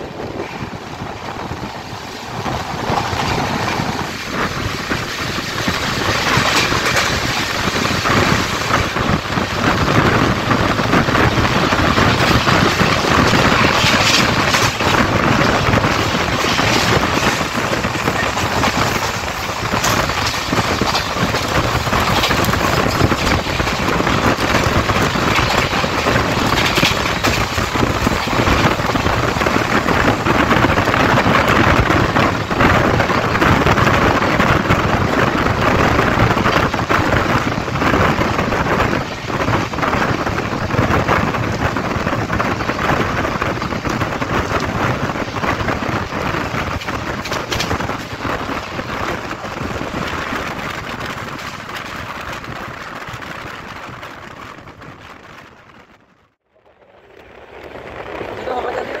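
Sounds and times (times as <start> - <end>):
train wheels clattering on rails: 0.0 - 55.4
wind rushing: 0.0 - 59.0.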